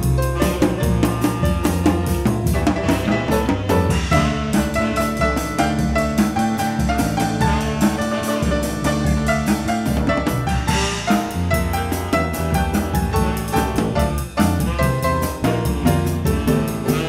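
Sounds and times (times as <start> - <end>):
busy drum beat: 0.0 - 17.0
electric bass: 0.0 - 17.0
jazz-funk band playing: 0.0 - 17.0
upright piano: 0.0 - 17.0.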